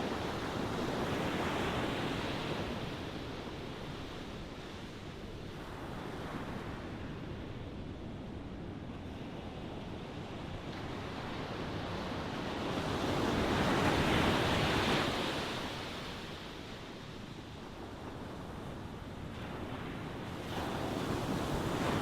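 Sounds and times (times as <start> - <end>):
ocean waves washing on shore: 0.0 - 22.0.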